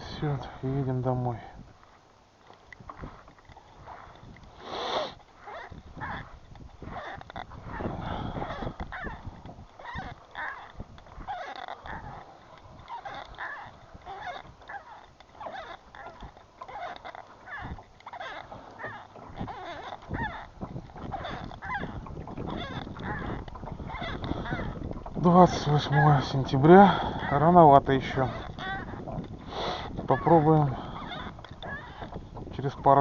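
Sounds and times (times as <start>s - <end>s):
animal calls: 2.9s - 33.0s.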